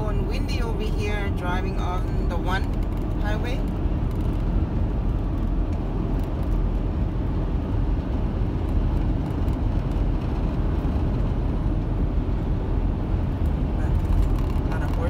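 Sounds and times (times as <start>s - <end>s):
van road and engine rumble: 0.0s - 15.0s.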